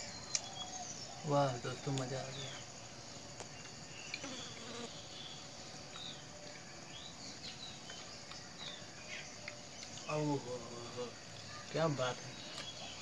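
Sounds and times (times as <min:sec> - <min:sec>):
bird chirps: 0:00.0 - 0:02.8, 0:03.4 - 0:13.0.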